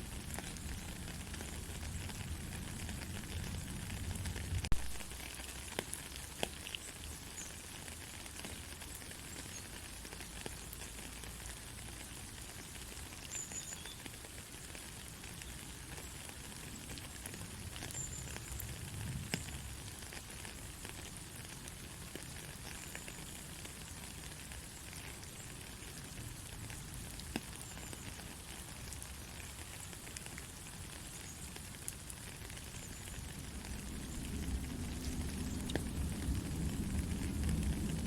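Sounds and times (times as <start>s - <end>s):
sharp raindrop ticks: 0.0s - 38.0s
soft rain hissing: 0.0s - 38.0s.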